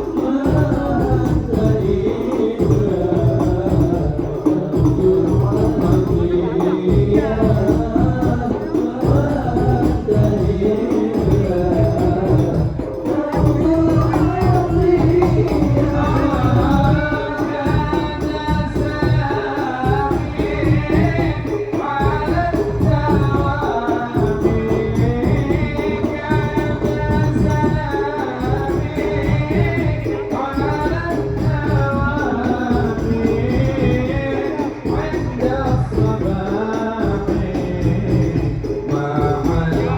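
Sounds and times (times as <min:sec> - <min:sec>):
frame drum beating: 0:00.0 - 0:39.9
person singing melodically: 0:00.0 - 0:39.9.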